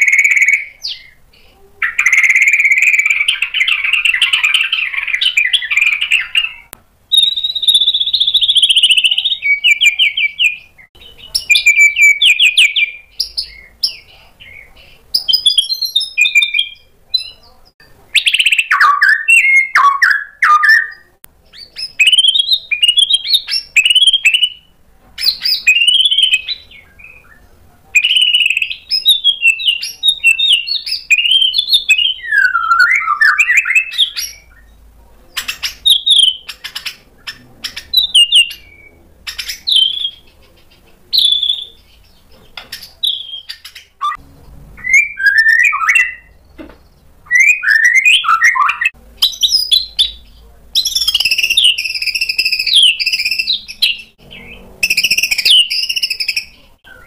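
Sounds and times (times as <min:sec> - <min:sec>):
bird singing varied phrases: 0:00.0 - 0:44.2, 0:44.8 - 0:57.0.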